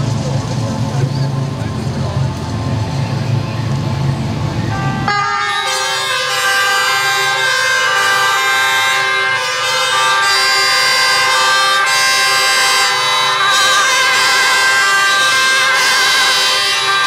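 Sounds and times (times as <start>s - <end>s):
two-tone sirens: 0.0s - 17.0s.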